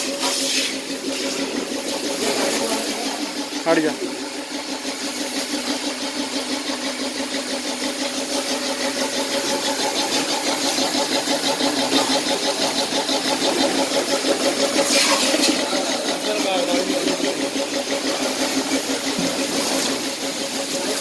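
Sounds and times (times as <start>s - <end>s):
electric pump running: 0.0s - 21.0s.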